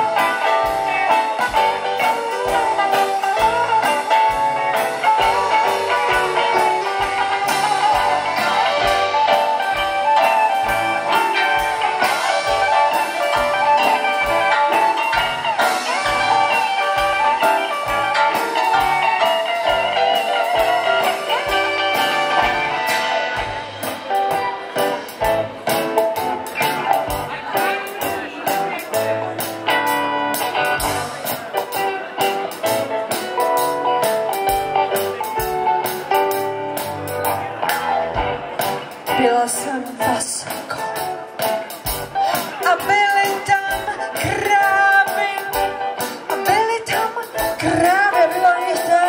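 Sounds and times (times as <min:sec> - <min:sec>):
guitar lines: 0:00.0 - 0:49.0
live band playing: 0:00.0 - 0:49.0.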